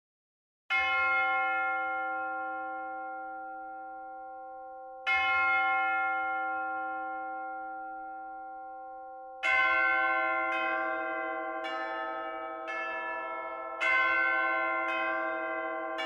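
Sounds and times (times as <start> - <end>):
church bells ringing: 0.7 - 16.0.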